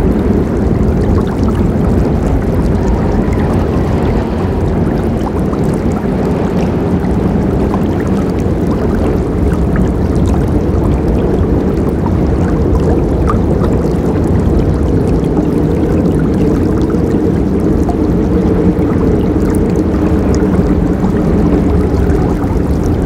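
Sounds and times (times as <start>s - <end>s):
river water rushing: 0.0s - 23.0s
small water splashes: 0.0s - 23.0s.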